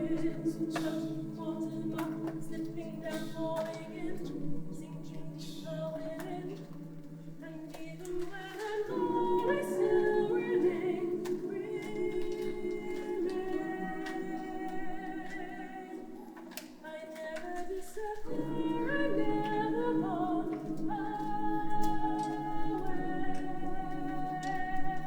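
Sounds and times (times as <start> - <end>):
choir singing unaccompanied: 0.0 - 25.0.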